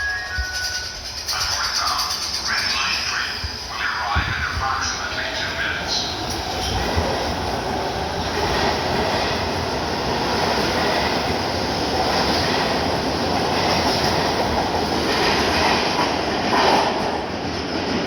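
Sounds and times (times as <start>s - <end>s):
train wheels on track: 0.0s - 18.0s.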